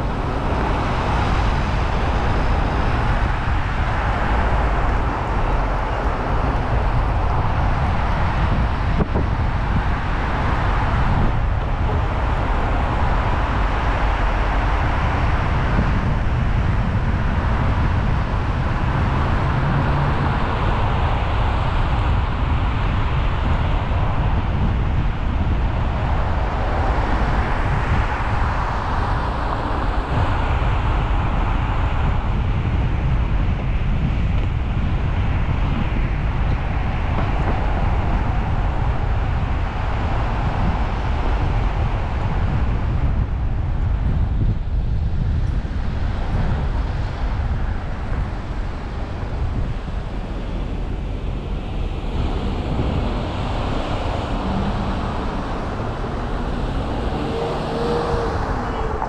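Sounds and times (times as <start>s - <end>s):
car road and traffic noise: 0.0s - 59.0s
wind buffeting microphone: 0.0s - 59.0s.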